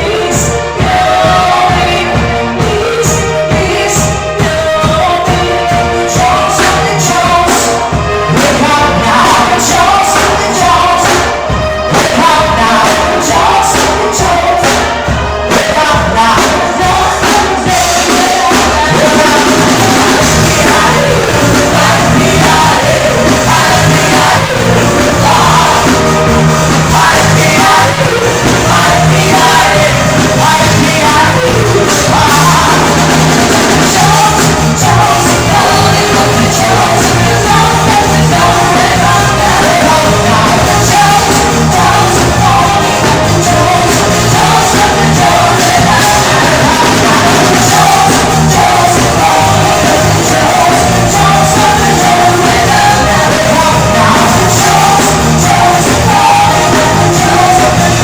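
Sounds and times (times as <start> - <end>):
loud music with singing: 0.0 - 58.0.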